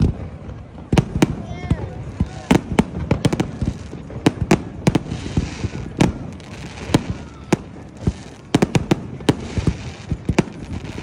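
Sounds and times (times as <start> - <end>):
hissing firework crackle: 0.0 - 11.0.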